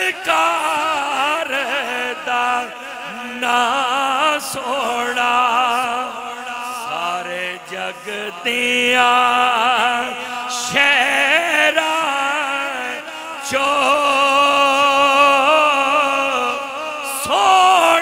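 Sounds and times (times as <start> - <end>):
man singing through loudspeakers: 0.0 - 18.0.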